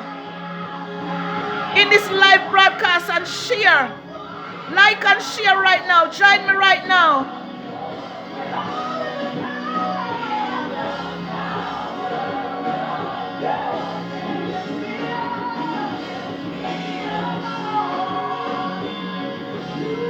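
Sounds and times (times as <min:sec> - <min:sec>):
worship music with singing: 0:00.0 - 0:20.0.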